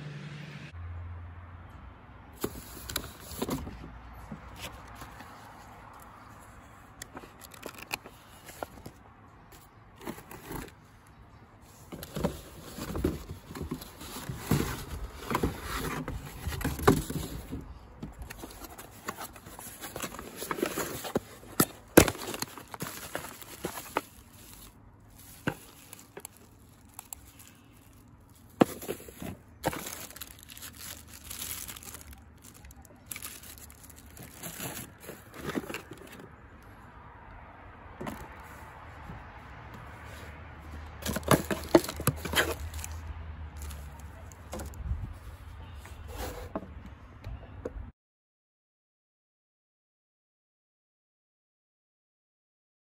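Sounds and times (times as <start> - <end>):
cardboard and paper rustling: 2.4 - 36.7, 38.0 - 46.8.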